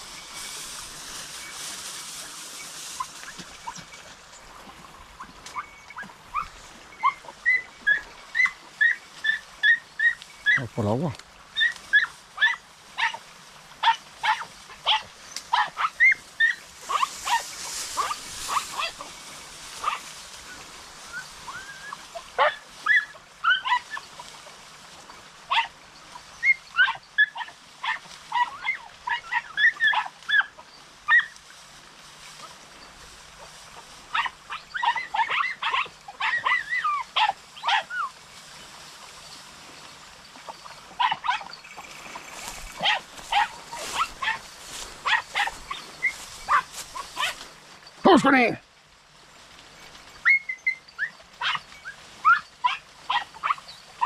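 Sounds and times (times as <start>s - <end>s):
hounds yelping: 0.0s - 31.5s, 32.2s - 48.6s, 49.8s - 54.0s.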